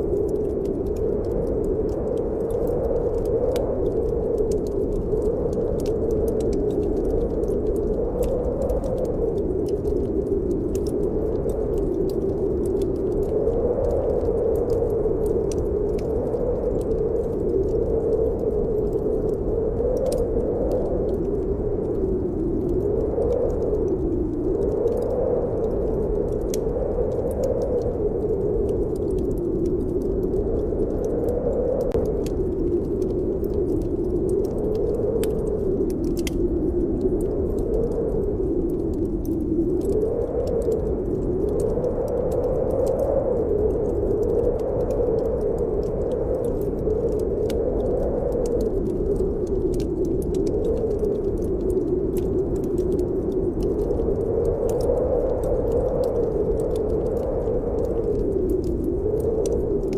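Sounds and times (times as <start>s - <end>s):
wind howling: 0.0s - 59.9s
wood fire crackling: 0.0s - 59.9s.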